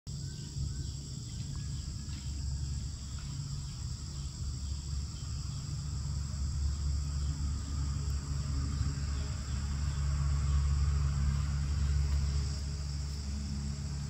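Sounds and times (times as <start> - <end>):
crickets chirping: 0.1 - 14.0
steady low rumble: 0.2 - 14.0.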